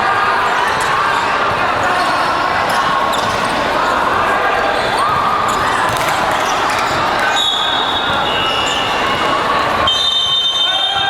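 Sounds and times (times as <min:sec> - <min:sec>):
din of voices: 0:00.0 - 0:09.9
basketball bouncing on court: 0:00.6 - 0:11.0
shoe squeaks: 0:00.6 - 0:11.0.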